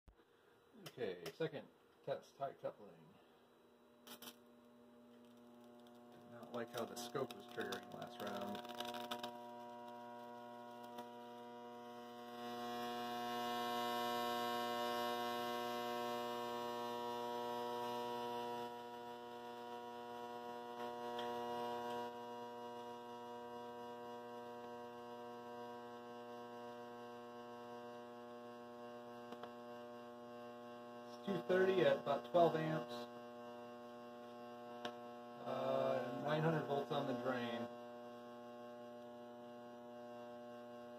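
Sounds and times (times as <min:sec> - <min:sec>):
tesla coil humming and hissing: 0:04.0 - 0:40.9.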